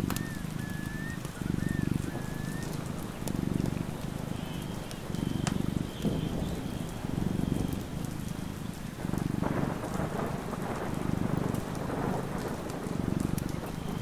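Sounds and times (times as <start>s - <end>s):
low thunder rumble: 0.0s - 14.0s
raindrop ticks: 0.0s - 14.0s
steady rain: 0.0s - 14.0s.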